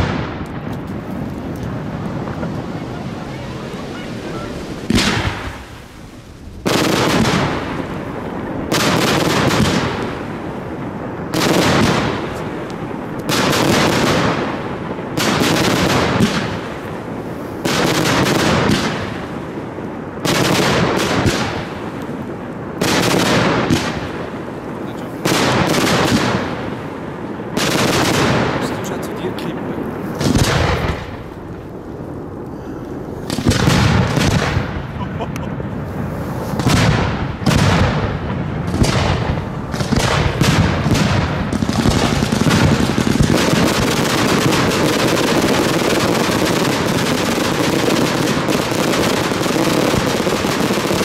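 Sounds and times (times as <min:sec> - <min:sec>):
fireworks firing volleys: 0:00.0 - 0:51.0.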